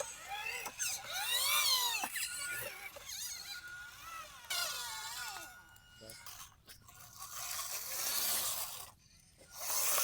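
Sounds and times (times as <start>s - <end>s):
small electric motor whining: 0.0s - 10.0s.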